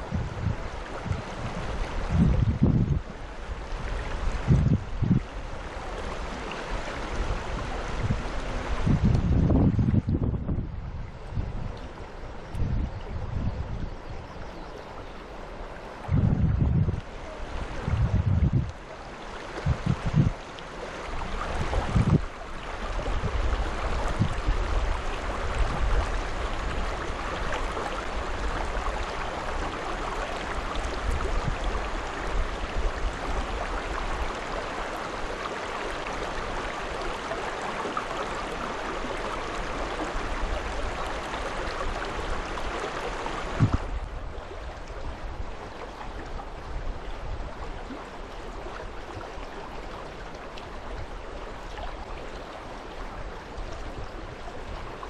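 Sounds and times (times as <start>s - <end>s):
rushing river water: 0.0s - 55.0s.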